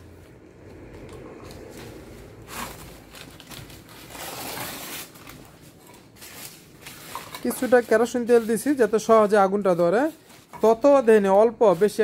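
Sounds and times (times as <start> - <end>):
rustling handling noises: 0.1 - 12.0.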